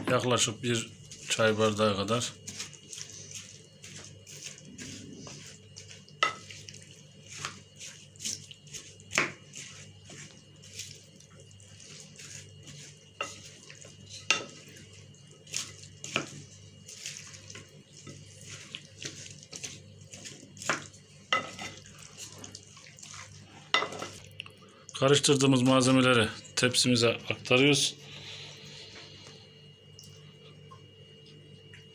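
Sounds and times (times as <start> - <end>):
wet stirring in a bowl: 0.1 - 31.9.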